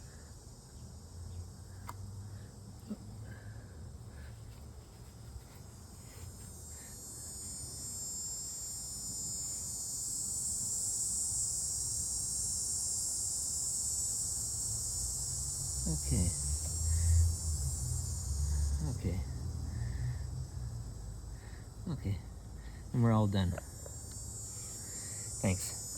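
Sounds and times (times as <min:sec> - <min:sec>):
insects buzzing: 0:00.0 - 0:25.9.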